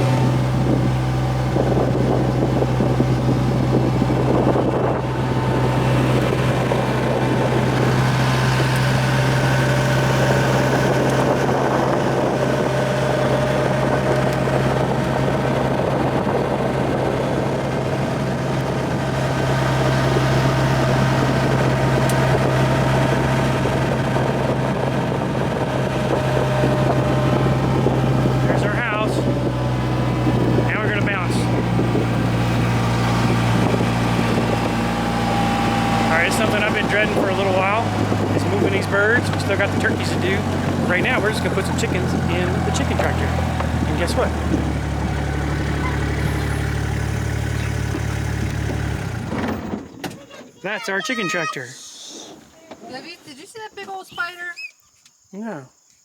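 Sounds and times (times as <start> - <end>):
vehicle engine droning: 0.0 - 50.0
road and wind noise: 0.0 - 54.7.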